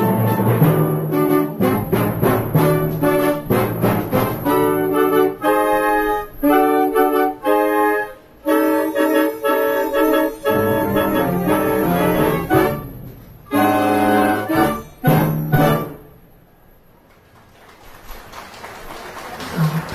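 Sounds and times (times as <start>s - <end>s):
wind band playing chords: 0.0s - 16.2s.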